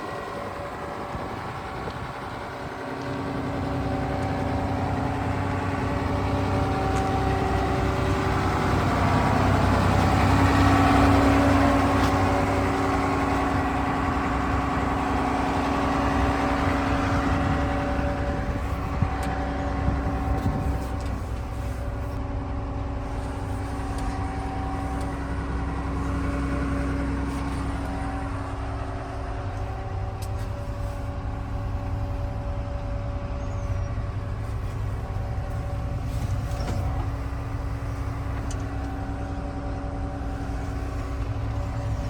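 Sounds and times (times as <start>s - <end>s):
diesel engine rumbling: 0.0s - 42.0s.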